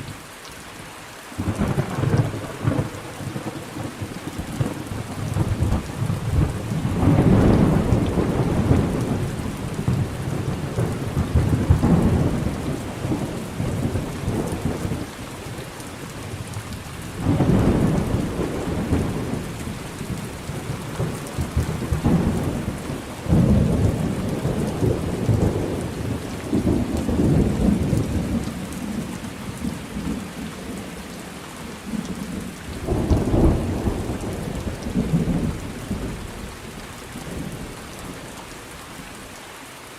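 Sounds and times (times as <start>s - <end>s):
steady rain: 0.0s - 39.9s
rolling thunder: 1.4s - 16.5s, 17.1s - 30.9s, 31.8s - 38.2s.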